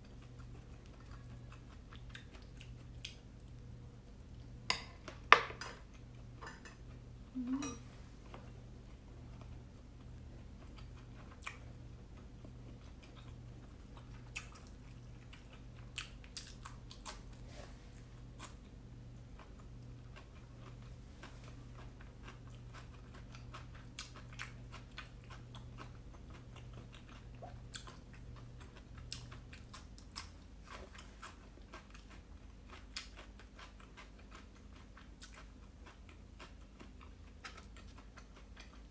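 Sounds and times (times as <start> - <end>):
person chewing with wet mouth sounds: 0.0 - 7.6, 8.2 - 38.9
faint low hum: 0.0 - 38.9.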